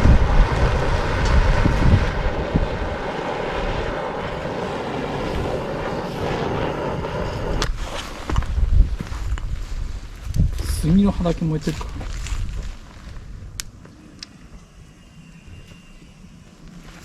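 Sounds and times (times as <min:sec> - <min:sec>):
gas torch flame rushing: 0:00.0 - 0:14.3.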